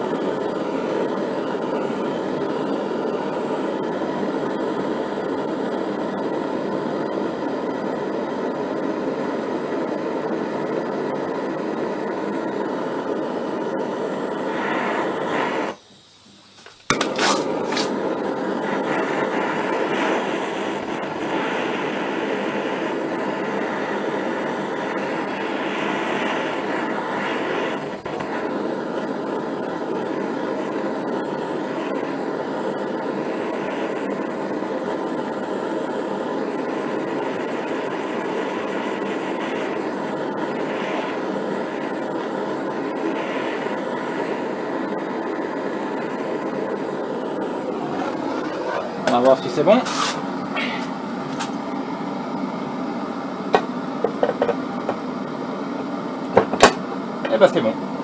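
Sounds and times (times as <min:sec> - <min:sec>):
blowtorch flame roaring: 0:00.0 - 0:58.0.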